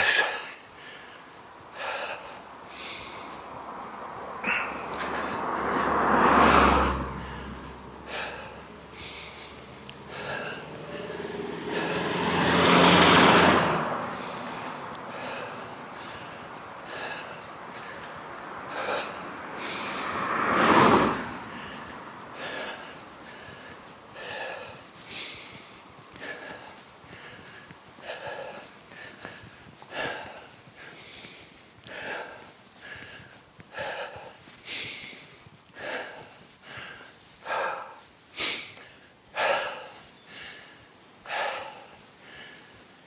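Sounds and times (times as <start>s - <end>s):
motor vehicles passing: 0.0s - 43.0s
person breathing hard: 0.0s - 43.0s.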